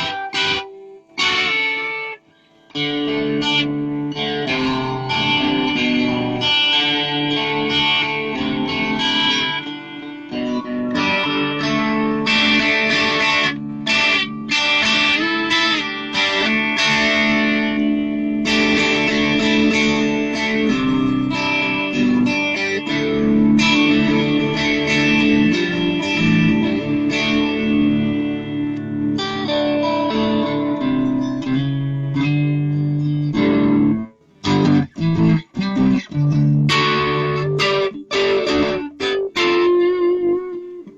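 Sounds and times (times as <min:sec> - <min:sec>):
electric guitar through amplifier: 0:00.0 - 0:40.9.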